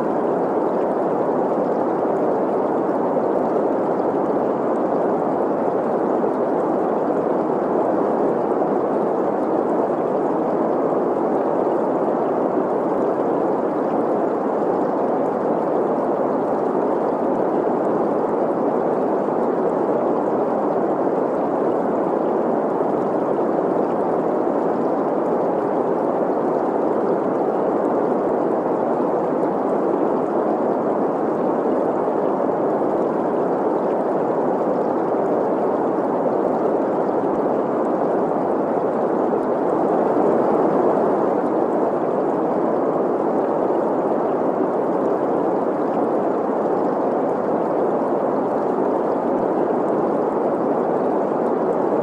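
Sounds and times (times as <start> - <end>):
stream flowing water: 0.0 - 52.0.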